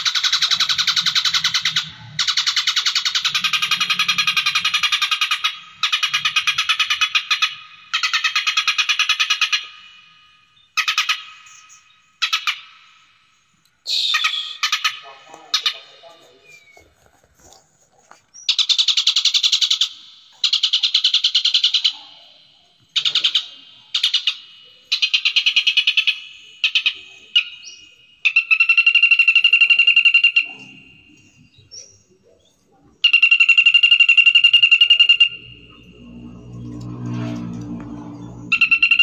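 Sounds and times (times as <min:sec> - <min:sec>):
songbird singing trills: 0:00.0 - 0:17.0, 0:18.3 - 0:39.0.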